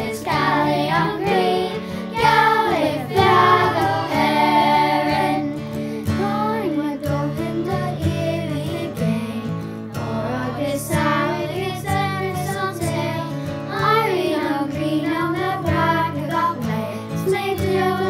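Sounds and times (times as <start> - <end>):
children singing in unison: 0.0 - 18.0
instrumental accompaniment: 0.0 - 18.0.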